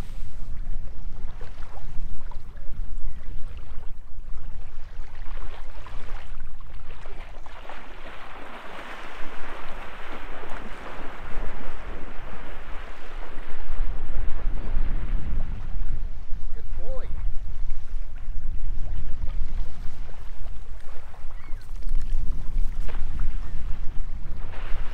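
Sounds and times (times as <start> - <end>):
small waves washing on shore: 0.0 - 24.9
wind buffeting microphone: 0.0 - 24.9.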